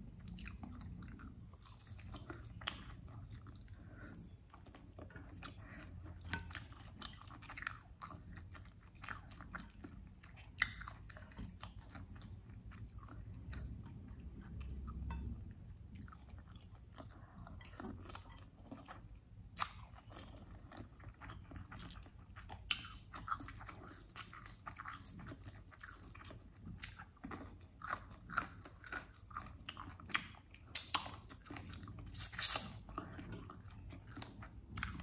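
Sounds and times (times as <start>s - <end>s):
chewing food: 0.0s - 35.0s.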